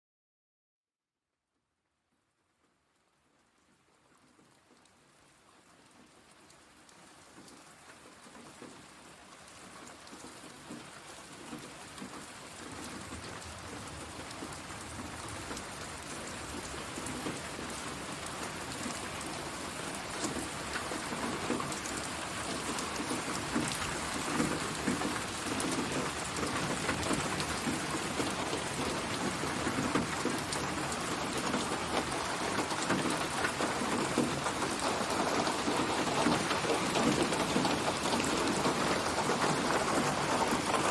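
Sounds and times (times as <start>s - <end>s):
rain pattering on surfaces: 2.5s - 40.9s.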